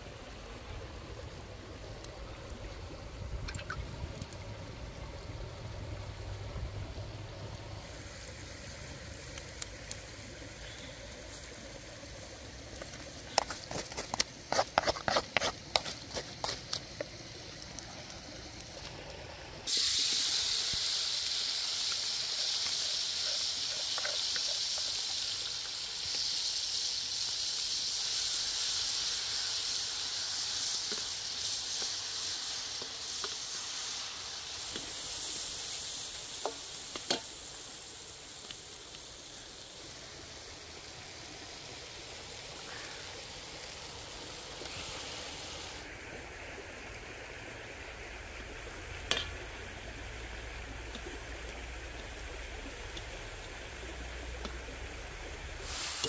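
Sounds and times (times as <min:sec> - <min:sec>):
food sizzling in a hot wok: 0:04.9 - 0:56.0.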